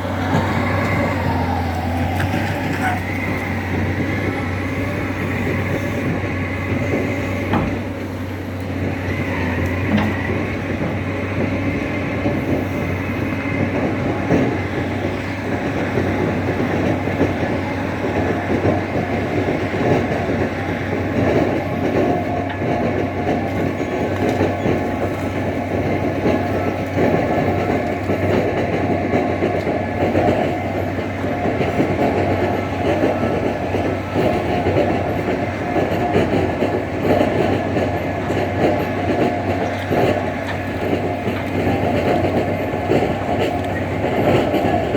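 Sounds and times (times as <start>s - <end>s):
tractor engine running under load: 0.0s - 44.9s.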